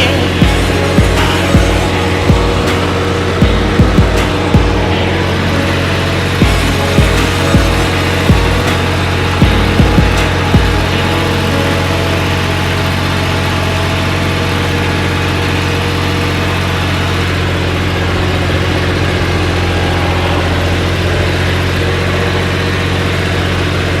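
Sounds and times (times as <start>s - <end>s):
tractor engine idling: 0.0s - 24.0s.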